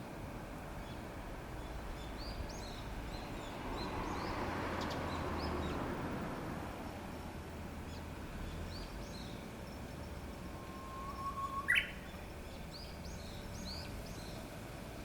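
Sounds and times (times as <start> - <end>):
bush warbler singing: 0.6 - 5.9, 7.7 - 15.0.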